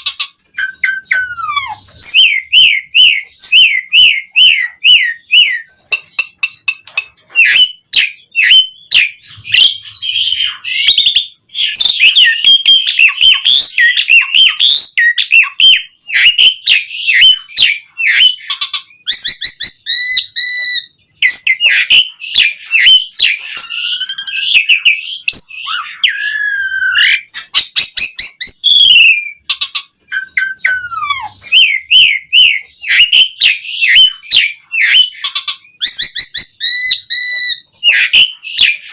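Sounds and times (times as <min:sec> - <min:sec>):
bird singing whistles and chatter: 0:00.0 - 0:38.9.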